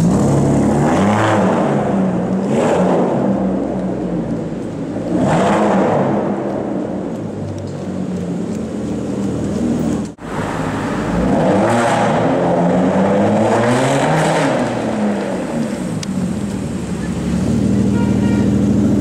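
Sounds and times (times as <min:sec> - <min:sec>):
car accelerating: 0:00.0 - 0:19.0
car engine with echo: 0:00.0 - 0:19.0.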